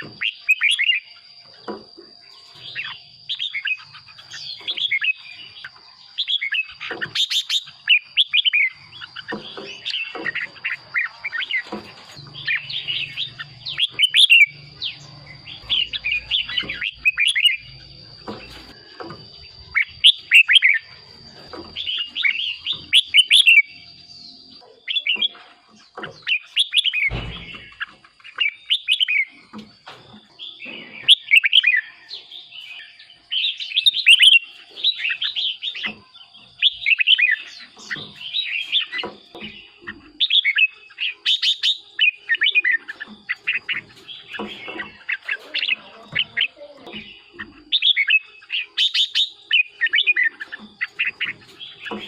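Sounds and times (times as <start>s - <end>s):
bulbuls warbling: 0.0s - 52.0s.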